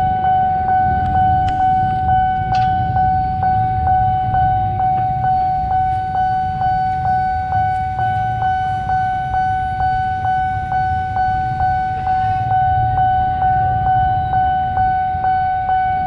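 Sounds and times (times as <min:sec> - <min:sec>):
level crossing warning bell: 0:00.0 - 0:16.0
low rumble: 0:00.0 - 0:16.0.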